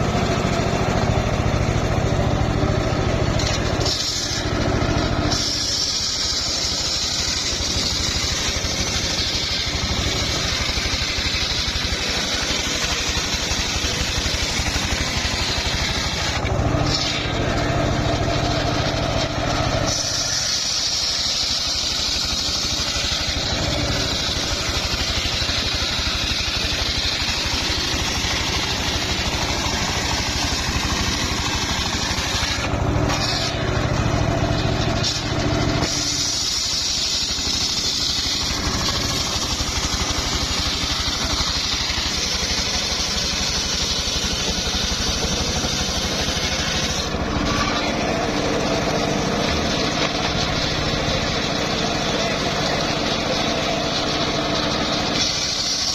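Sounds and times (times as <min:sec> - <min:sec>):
engine running: 0:00.0 - 0:55.9
sawmill blade sawing log: 0:00.0 - 0:55.9.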